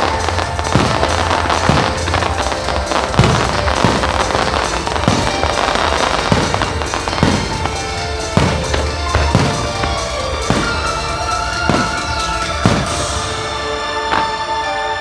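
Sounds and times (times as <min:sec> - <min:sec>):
fireworks bursting: 0:00.0 - 0:15.0
fireworks crackling: 0:00.0 - 0:15.0
loud music: 0:00.0 - 0:15.0.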